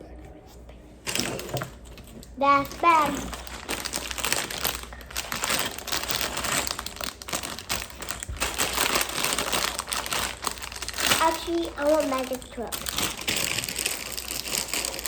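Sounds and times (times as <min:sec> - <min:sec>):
plastic rustling and crinkling: 0:01.0 - 0:15.0.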